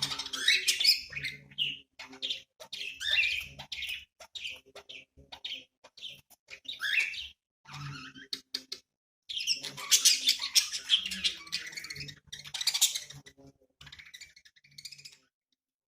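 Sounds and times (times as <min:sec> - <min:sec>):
budgerigars chirping and warbling: 0:00.0 - 0:15.3.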